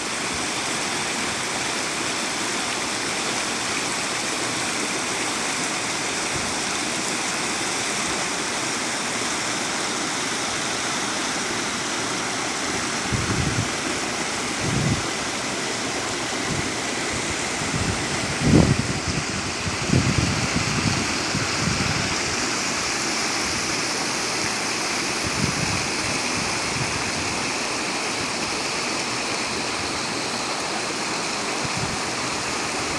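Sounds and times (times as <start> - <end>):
stream rushing over rocks: 0.0 - 32.9.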